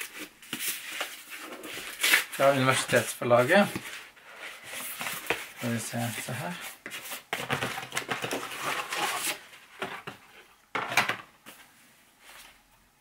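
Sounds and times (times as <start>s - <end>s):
cardboard scraping and rustling: 0.0s - 10.4s.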